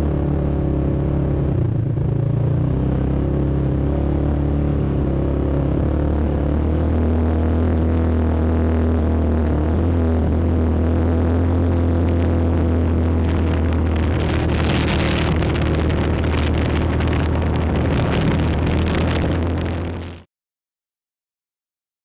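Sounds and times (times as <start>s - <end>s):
wind and trail noise: 0.0s - 20.2s
engine running at cruise: 0.0s - 20.3s.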